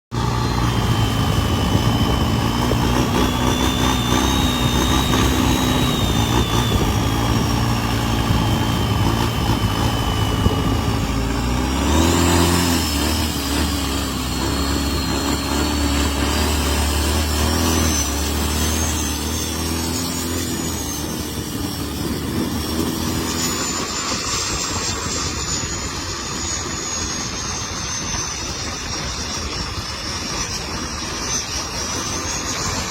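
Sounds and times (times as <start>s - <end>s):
boat engines running: 0.1s - 32.9s
wavering turbo whistle: 0.1s - 32.9s.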